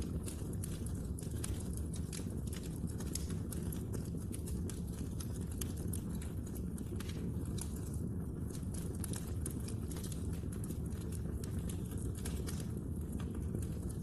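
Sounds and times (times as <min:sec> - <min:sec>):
fireplace flames rumbling: 0:00.0 - 0:14.0
wood crackling and popping: 0:00.0 - 0:14.0.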